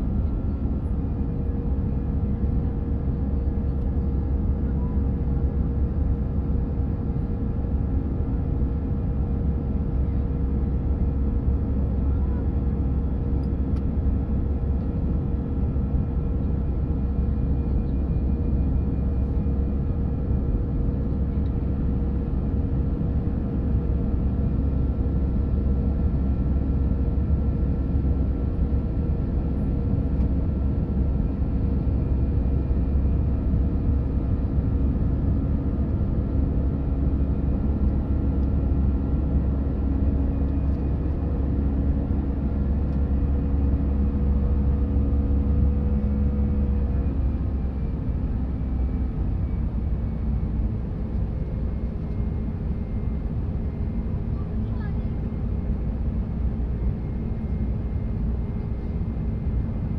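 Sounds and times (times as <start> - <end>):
engine hum of steady tones: 0.0 - 59.9
jet engine cabin roar: 0.0 - 59.9.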